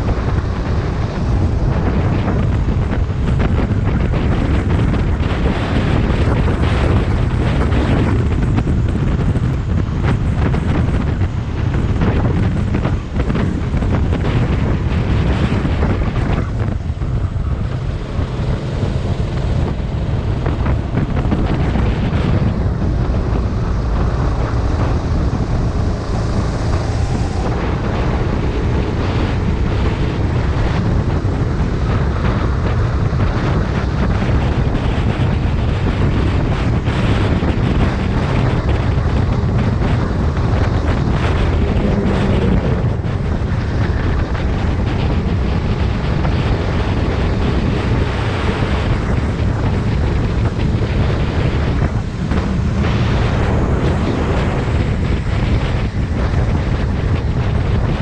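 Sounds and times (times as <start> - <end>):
kart engine running: 0.0 - 58.0
wind buffeting on microphone: 0.0 - 58.0.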